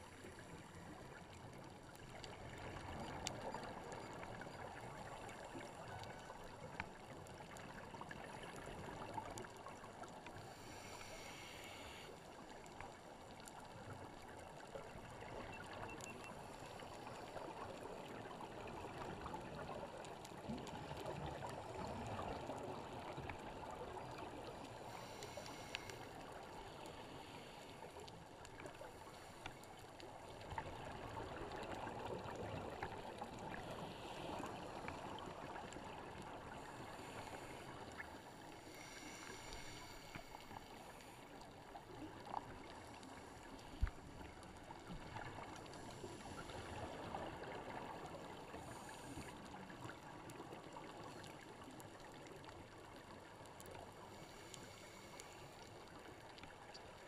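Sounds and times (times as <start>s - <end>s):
small underwater clicks: 0.0s - 57.0s.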